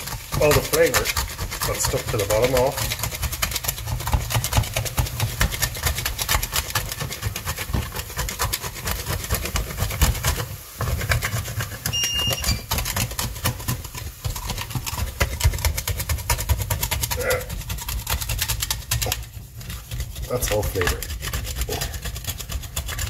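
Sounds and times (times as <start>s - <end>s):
wine sizzling in hot pot: 0.0s - 23.0s
wooden spoon scraping pot: 0.0s - 23.0s.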